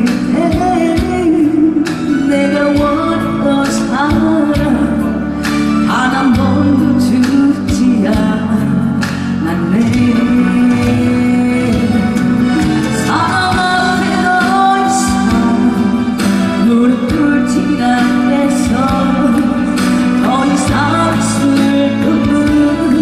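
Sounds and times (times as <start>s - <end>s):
backing music with steady beat: 0.0s - 23.0s
woman singing: 0.0s - 23.0s.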